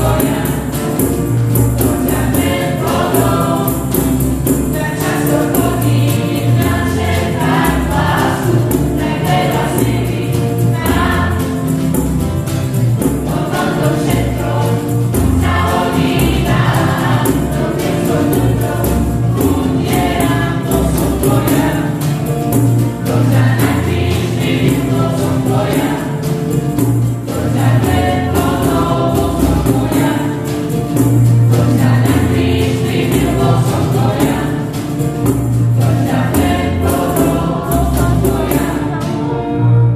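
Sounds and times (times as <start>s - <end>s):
tambourine: 0.0s - 39.8s
choir singing: 0.0s - 39.9s
guitar: 0.0s - 39.9s
keyboard: 0.0s - 39.9s.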